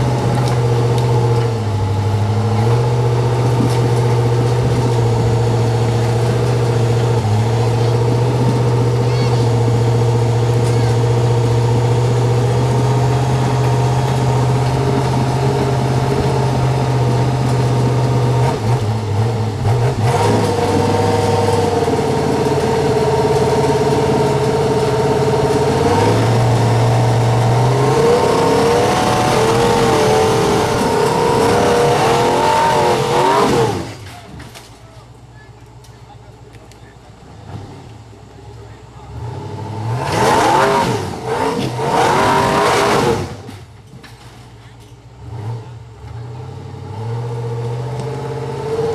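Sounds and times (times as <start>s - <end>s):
buggy engine revving: 0.0s - 48.9s.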